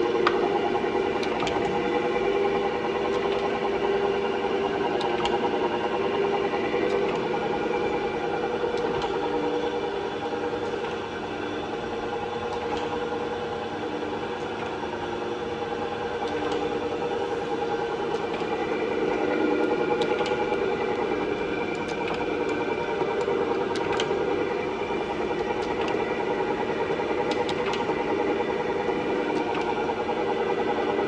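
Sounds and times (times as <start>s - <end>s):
grinder machine hum: 0.0s - 31.0s.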